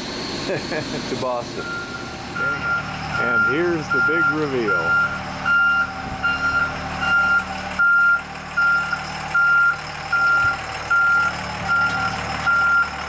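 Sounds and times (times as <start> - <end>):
truck reversing alarm beeping: 0.0 - 13.0.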